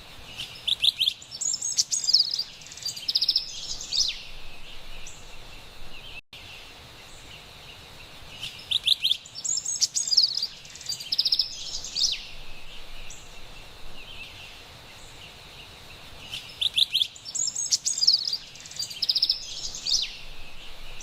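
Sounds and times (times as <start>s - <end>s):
faint forest hiss: 0.0s - 21.0s
wren singing bright notes: 0.3s - 7.3s, 8.3s - 21.0s.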